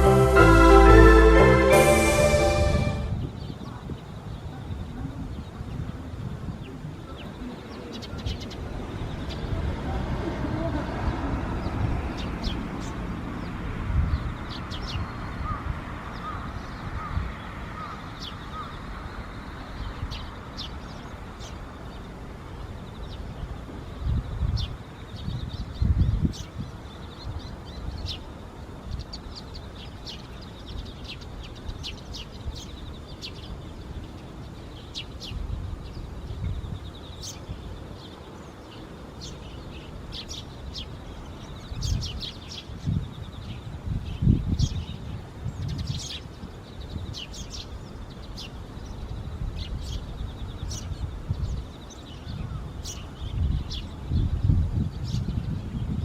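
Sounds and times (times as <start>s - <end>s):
sparrows chirping: 3.2s - 56.0s.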